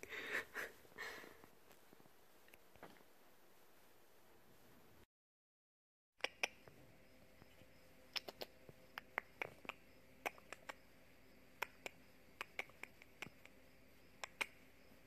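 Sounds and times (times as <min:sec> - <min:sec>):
faint steady hiss: 0:00.0 - 0:05.1, 0:06.2 - 0:15.0.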